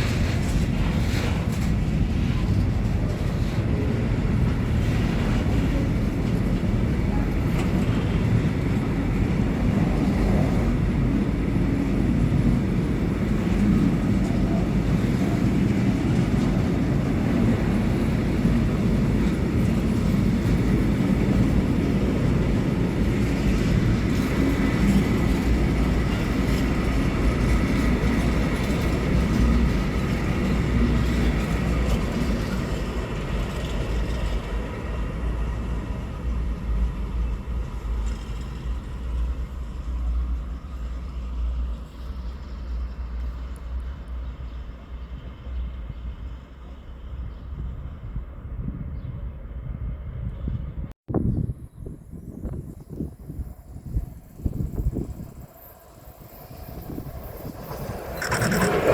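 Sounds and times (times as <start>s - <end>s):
train rumbling past: 0.0s - 58.9s.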